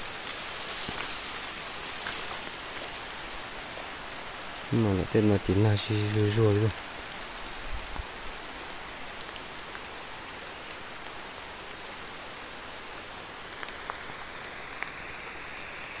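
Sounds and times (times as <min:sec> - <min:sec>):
rain falling on leaves: 0:00.0 - 0:16.0
raindrop ticks: 0:00.2 - 0:15.9.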